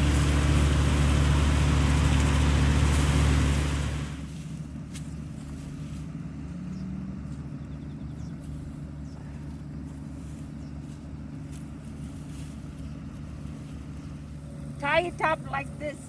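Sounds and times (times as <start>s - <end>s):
farm machinery engine hum: 0.0s - 16.0s.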